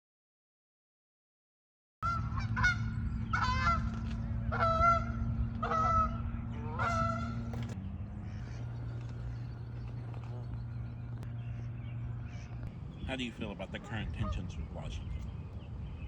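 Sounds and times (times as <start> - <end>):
geese honking: 2.0 - 15.2
steady low hum: 2.0 - 16.0.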